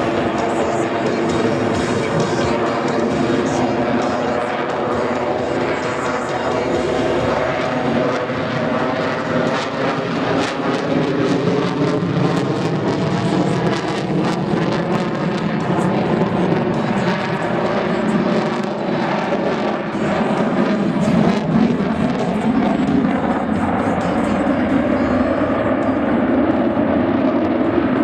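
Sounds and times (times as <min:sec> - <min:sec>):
loud crackling jet noise: 0:00.0 - 0:28.0.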